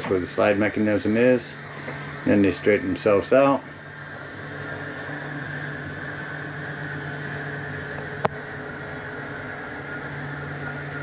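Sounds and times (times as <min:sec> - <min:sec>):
electric motor hum: 0:00.0 - 0:11.0.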